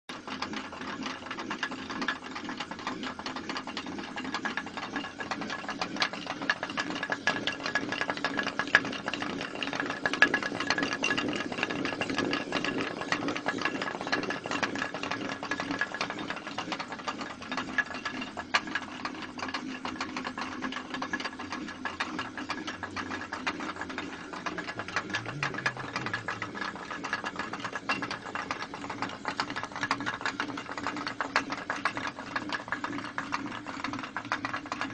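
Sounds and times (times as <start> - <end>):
stone mill clattering: 0.1 - 34.9.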